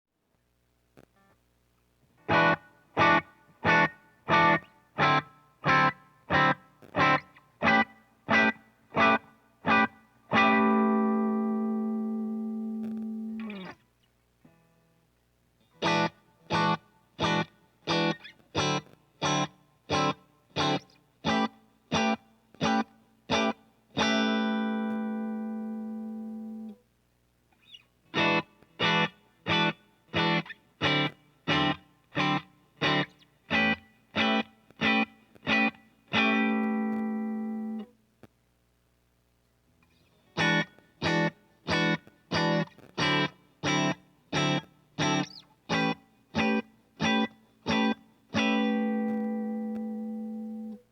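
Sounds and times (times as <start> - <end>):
faint amp hum: 0.1 - 50.9
clean electric guitar chords: 2.2 - 13.8, 15.8 - 26.8, 28.2 - 37.9, 40.4 - 50.9.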